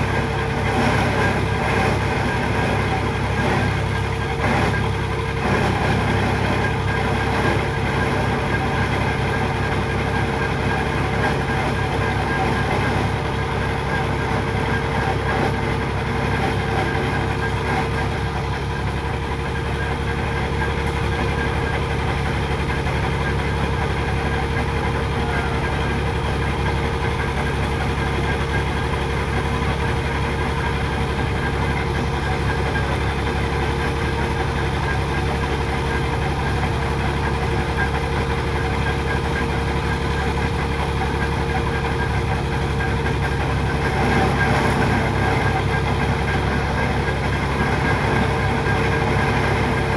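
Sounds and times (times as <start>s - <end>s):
engine low rumble: 0.0s - 49.9s.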